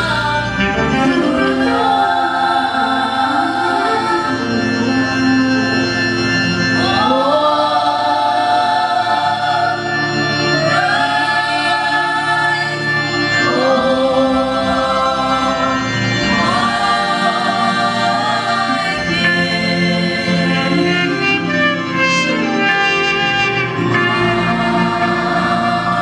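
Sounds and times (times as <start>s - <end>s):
choir singing a hymn: 0.0s - 26.0s
sustained accompanying chords: 0.0s - 26.0s.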